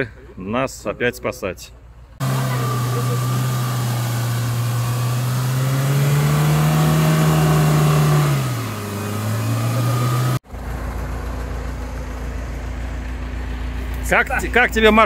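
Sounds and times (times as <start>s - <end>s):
car engine running hard: 2.1s - 15.0s.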